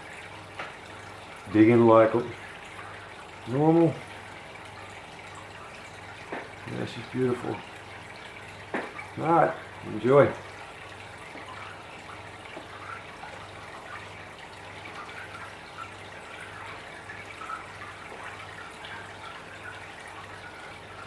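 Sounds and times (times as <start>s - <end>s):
water trickling and dripping: 0.0s - 21.0s.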